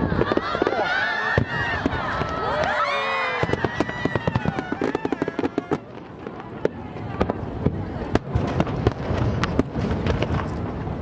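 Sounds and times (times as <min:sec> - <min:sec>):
fireworks bangs: 0:00.0 - 0:11.0
fireworks crackling pops: 0:00.0 - 0:11.0.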